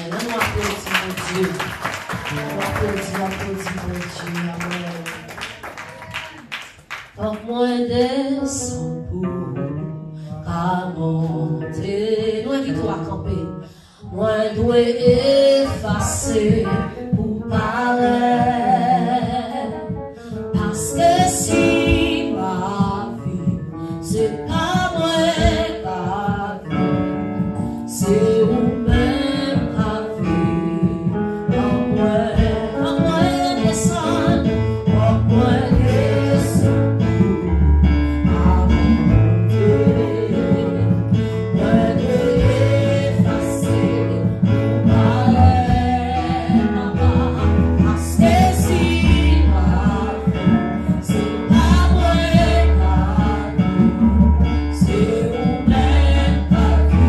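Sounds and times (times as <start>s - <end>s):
band accompaniment: 0.0s - 7.3s, 14.5s - 57.0s
women singing into microphones: 7.2s - 9.6s, 10.4s - 57.0s.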